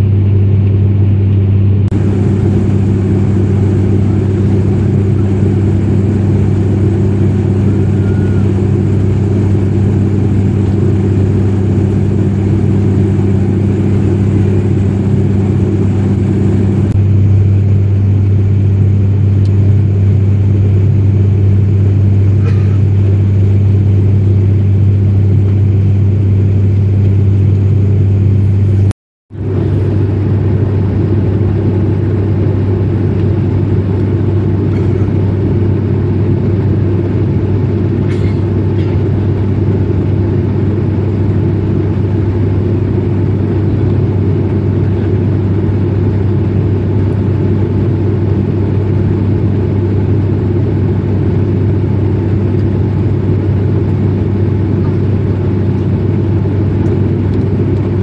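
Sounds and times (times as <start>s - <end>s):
propeller engine drone in cabin: 0.0s - 58.0s.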